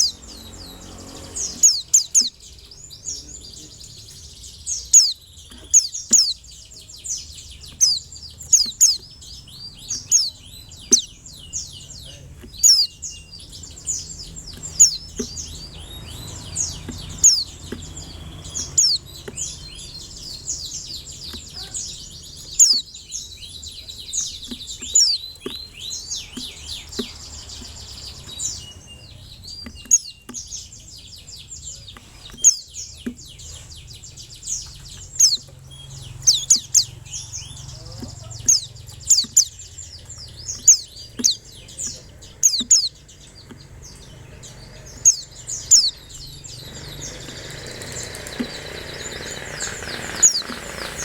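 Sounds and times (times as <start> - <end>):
bird twittering: 0.0 - 51.0.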